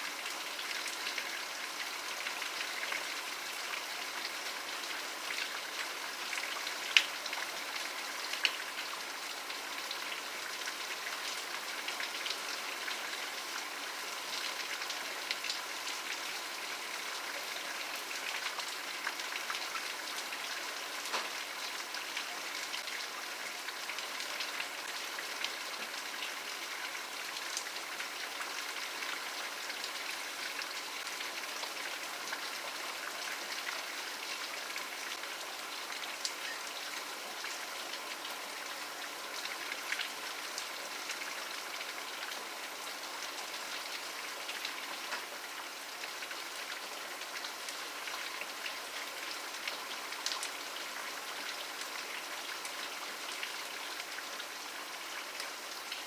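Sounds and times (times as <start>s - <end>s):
steady rain hiss: 0.0s - 56.0s
raindrops ticking on a surface: 0.2s - 23.0s, 23.6s - 54.3s.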